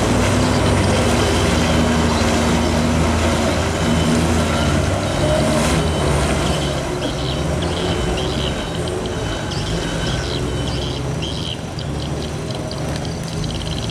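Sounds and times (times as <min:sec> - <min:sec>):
diesel truck engine straining: 0:00.0 - 0:13.9.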